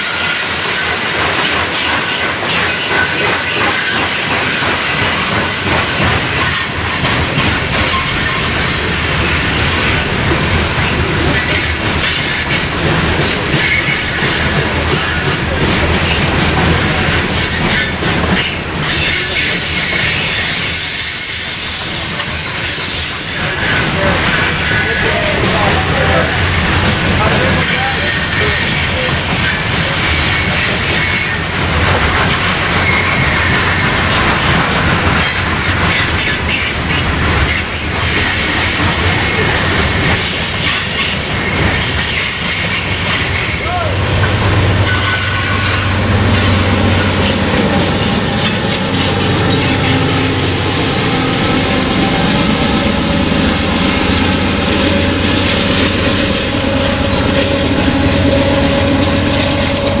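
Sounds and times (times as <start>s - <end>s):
train wheels clattering and squealing: 0.0s - 60.0s.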